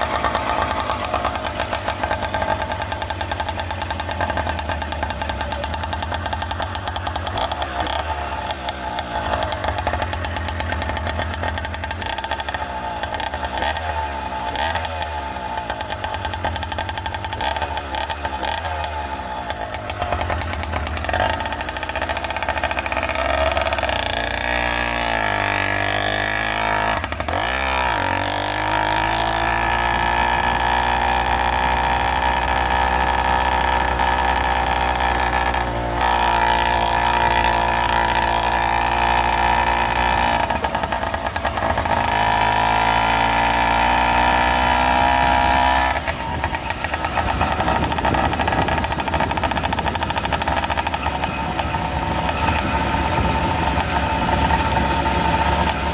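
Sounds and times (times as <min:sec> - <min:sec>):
small motorbike engine running: 0:00.0 - 0:55.9.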